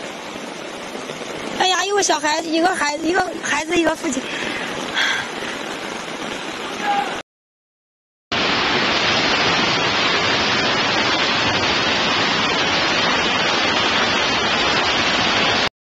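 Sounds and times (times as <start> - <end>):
floodwater rushing: 0.0 - 7.2, 8.3 - 15.7.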